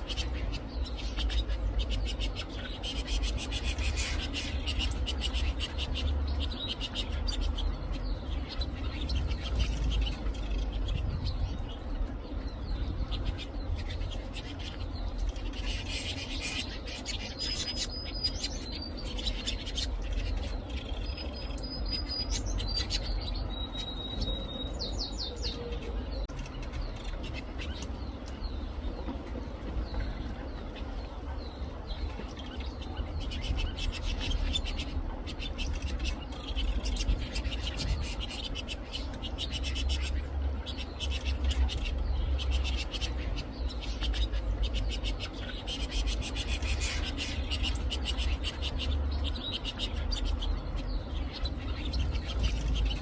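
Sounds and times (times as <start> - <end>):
canaries chirping and calling: 0.0 - 53.0
steady low rumble: 0.0 - 53.0.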